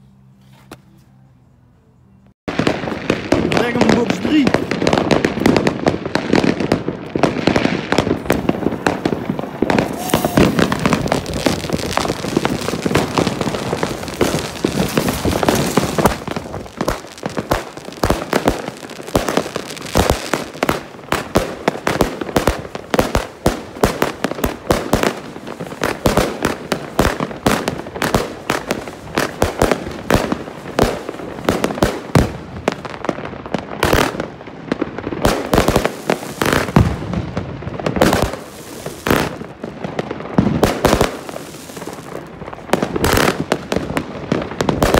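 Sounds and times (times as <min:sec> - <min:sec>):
sharp firework bangs: 0:02.5 - 0:39.5
firework launches and bursts: 0:02.5 - 0:39.7, 0:40.3 - 0:44.9.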